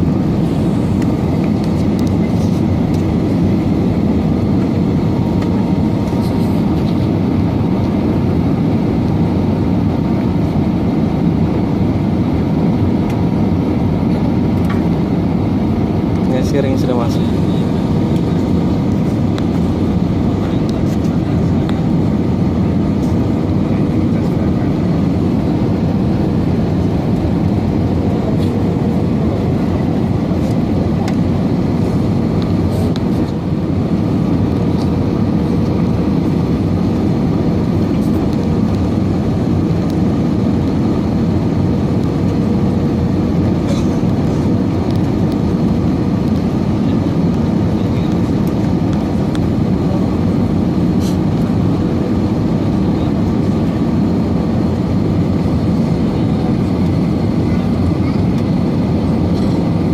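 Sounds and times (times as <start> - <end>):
rush of engines and airflow: 0.0 - 59.9.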